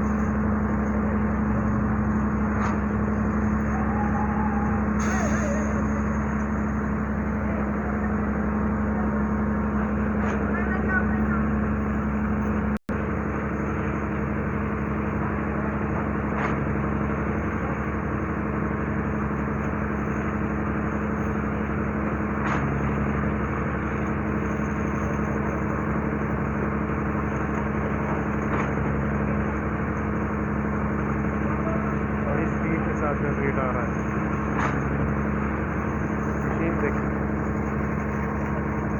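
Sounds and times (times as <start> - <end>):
construction machinery engine droning: 0.0 - 38.9.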